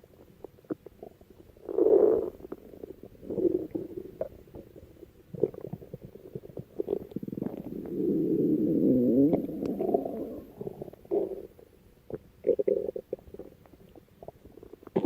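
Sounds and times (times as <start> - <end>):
stomach growling: 0.1 - 15.0.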